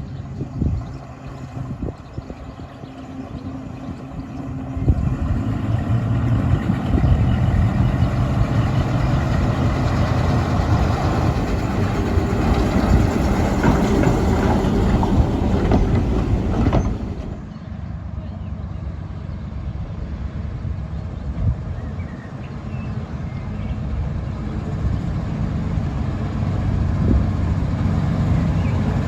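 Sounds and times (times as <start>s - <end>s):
diesel engine running: 0.0s - 21.2s, 23.2s - 29.0s.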